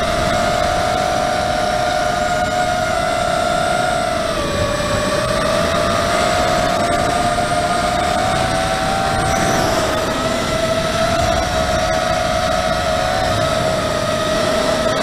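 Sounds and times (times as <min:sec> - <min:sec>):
quadcopter motors whining: 0:00.0 - 0:15.0
wind on microphone: 0:00.0 - 0:15.0.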